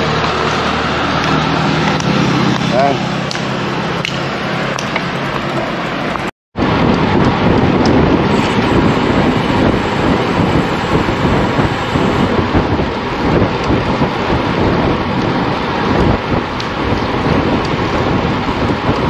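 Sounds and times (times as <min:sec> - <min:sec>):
wind buffeting microphone: 0:00.8 - 0:19.0.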